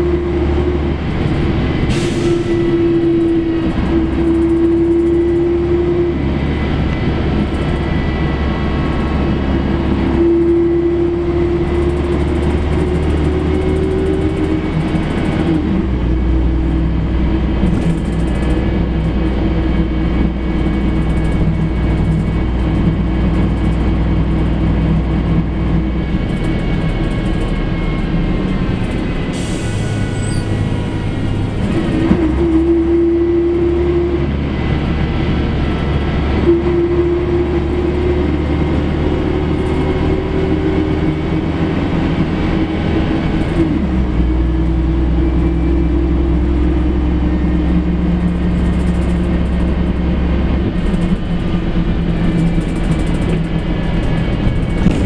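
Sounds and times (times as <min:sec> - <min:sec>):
bus diesel engine rumble: 0:00.0 - 0:55.0.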